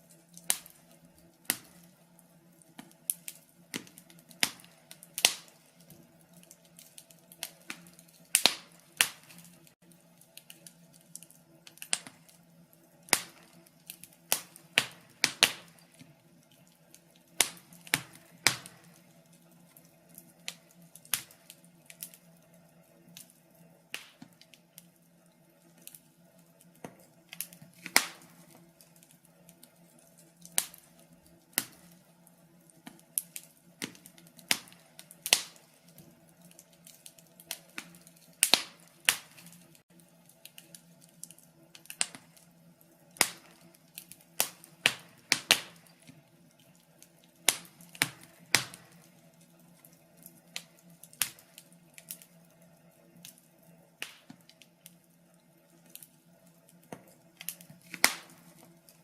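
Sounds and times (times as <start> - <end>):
faint low background hum: 0.0 - 59.0
wood fire crackling: 0.0 - 59.0.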